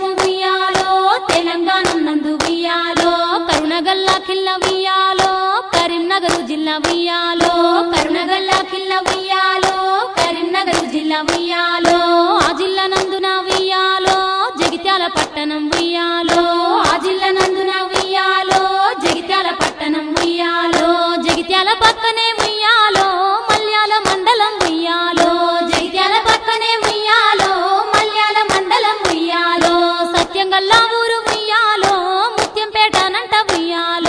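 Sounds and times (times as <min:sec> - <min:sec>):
rhythmic hand claps: 0:00.0 - 0:34.0
women singing folk song: 0:00.0 - 0:34.0.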